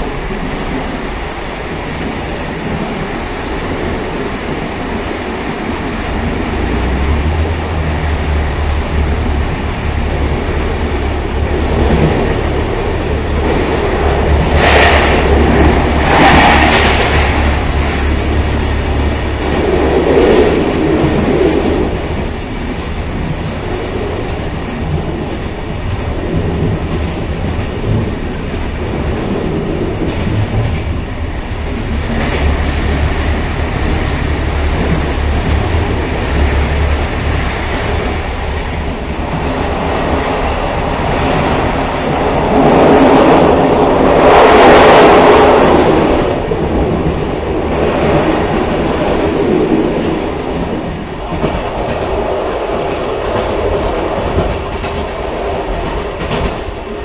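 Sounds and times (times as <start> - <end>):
railcar rumbling on rails: 0.0 - 57.0.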